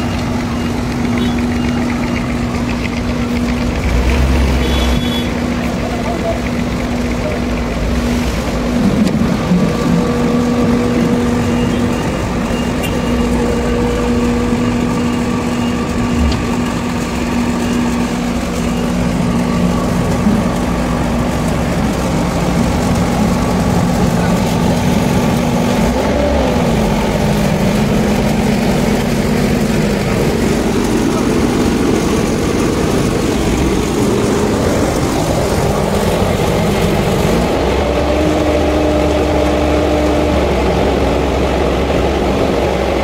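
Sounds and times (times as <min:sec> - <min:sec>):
diesel engine humming: 0:00.0 - 0:43.0.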